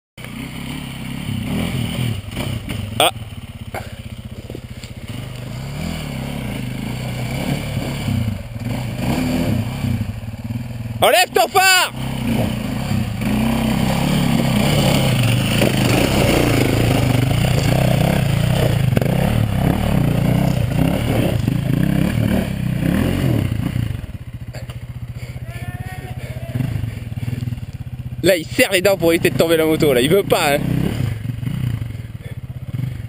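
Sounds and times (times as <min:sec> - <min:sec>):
dirt bike engine revving: 0:00.2 - 0:33.0.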